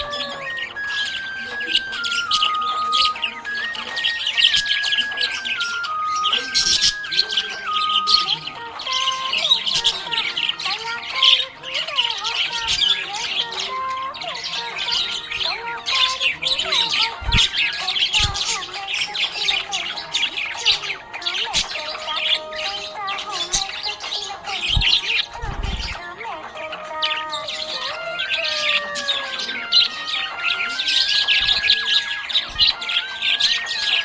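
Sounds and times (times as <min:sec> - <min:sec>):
budgerigars chirping and squawking: 0:00.0 - 0:34.0.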